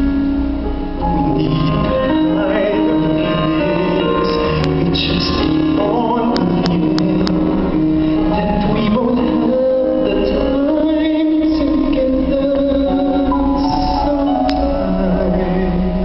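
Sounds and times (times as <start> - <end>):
live band music: 0.0 - 16.0
person singing: 1.0 - 16.0.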